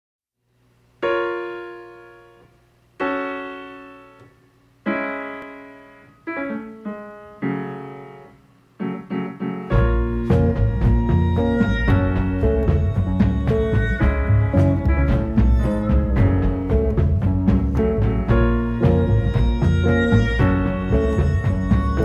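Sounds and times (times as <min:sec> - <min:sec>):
piano chords ringing: 0:01.0 - 0:22.0.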